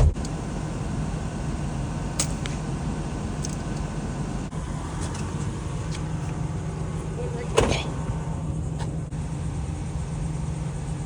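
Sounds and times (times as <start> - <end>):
motor vehicle humming: 0.0 - 11.0.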